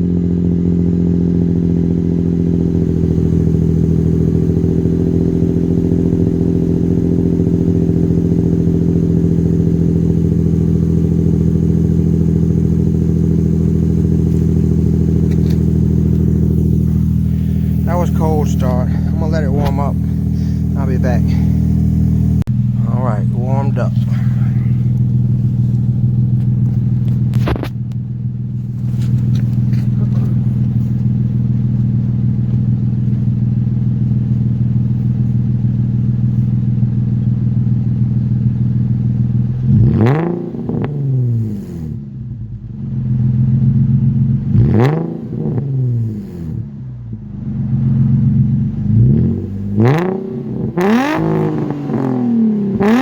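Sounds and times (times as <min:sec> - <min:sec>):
car engine revving: 0:00.0 - 0:42.0, 0:44.3 - 0:53.0
car engine idling: 0:00.0 - 0:53.0.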